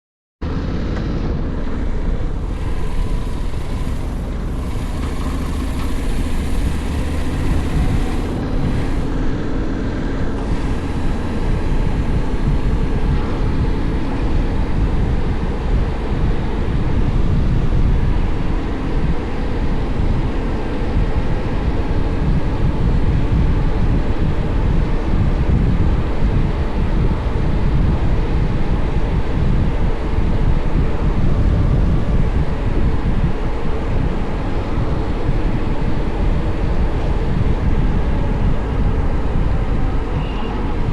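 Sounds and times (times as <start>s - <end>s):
motorcycle engine droning: 0.4s - 40.9s
wind buffeting microphone: 0.5s - 40.9s.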